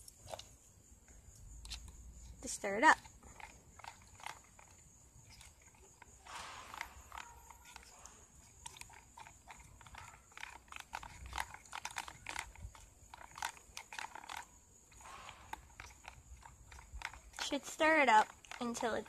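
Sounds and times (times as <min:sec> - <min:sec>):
plastic spoon scraping bowl: 0:03.0 - 0:19.0.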